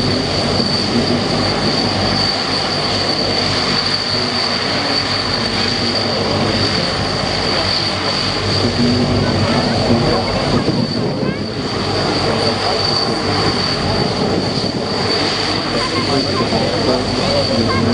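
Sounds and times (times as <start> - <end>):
turboprop engines running: 0.0 - 17.9.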